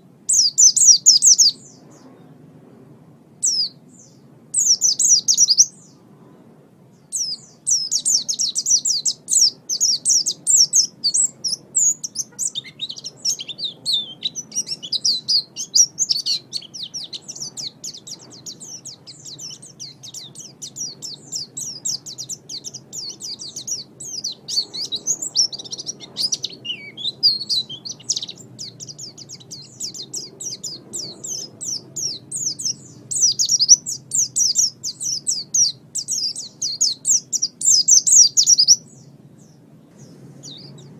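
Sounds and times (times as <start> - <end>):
bird twittering song: 0.0 - 2.4, 3.4 - 6.1, 6.9 - 40.9.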